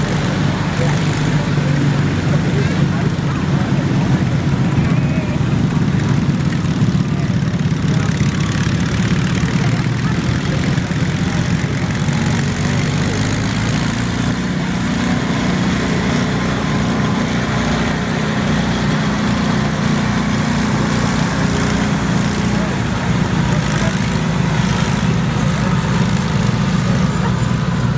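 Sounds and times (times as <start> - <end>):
garden tractor engine running: 0.0 - 27.9.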